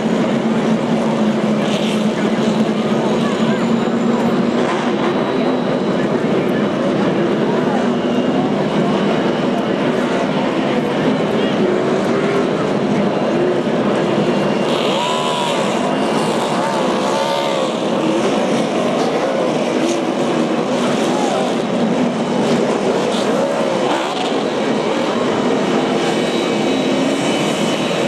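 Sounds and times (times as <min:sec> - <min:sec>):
background engine noise: 0:00.0 - 0:28.0
race cars passing at speed: 0:00.0 - 0:28.0.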